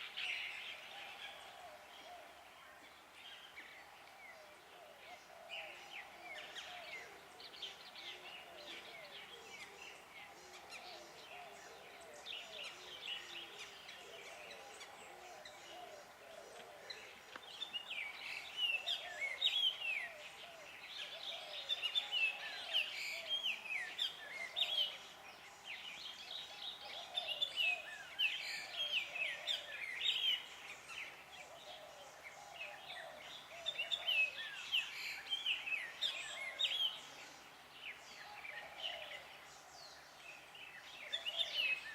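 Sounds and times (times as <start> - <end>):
birds calling and singing: 0.0 - 41.9.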